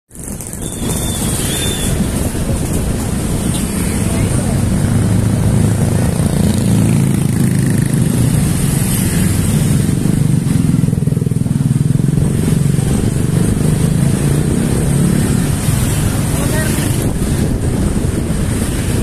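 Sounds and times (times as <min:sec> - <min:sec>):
motor scooter engines running: 0:00.1 - 0:19.0.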